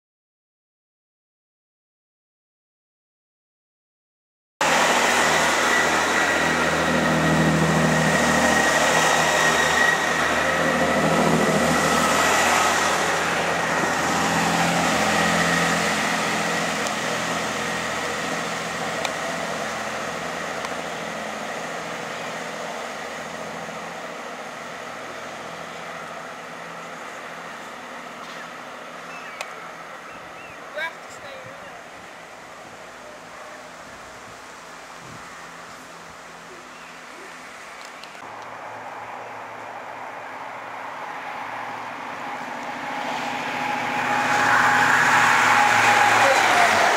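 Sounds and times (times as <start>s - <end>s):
diesel train engine drone: 4.6s - 46.9s
steady whine: 4.6s - 46.9s
wheel-on-rail noise: 4.6s - 46.9s.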